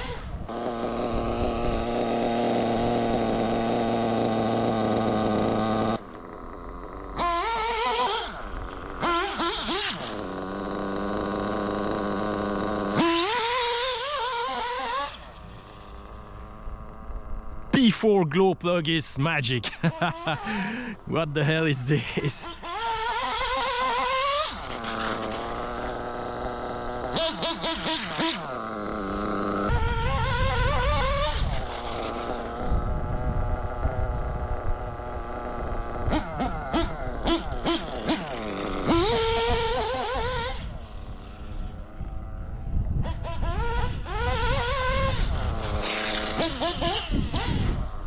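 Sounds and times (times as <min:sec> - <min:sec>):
model engine idling and revving: 0:00.0 - 0:48.0.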